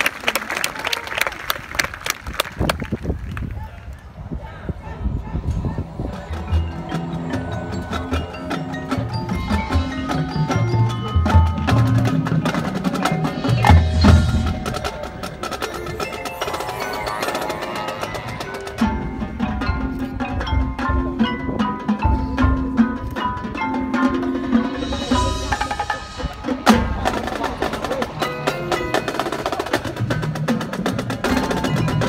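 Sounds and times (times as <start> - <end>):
band playing: 5.9 - 32.0
mallet percussion: 5.9 - 32.0.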